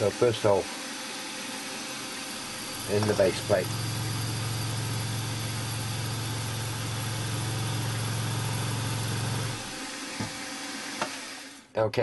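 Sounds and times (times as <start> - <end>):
milling machine spindle humming: 0.0 - 11.6
drill bit drilling aluminium: 0.0 - 11.7.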